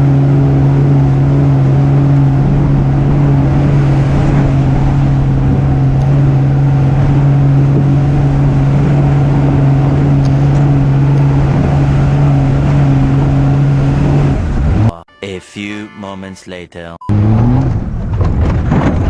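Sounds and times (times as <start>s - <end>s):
truck engine droning: 0.0s - 15.0s, 17.1s - 19.0s.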